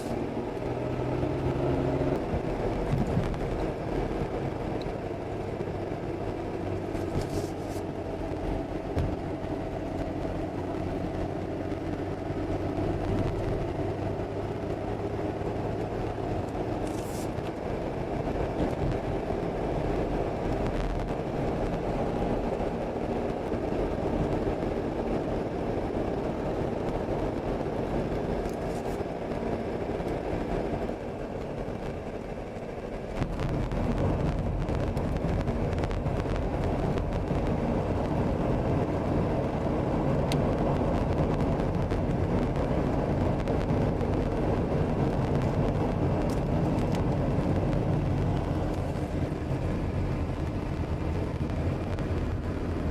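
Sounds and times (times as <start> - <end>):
road and engine noise in car: 0.0 - 52.9.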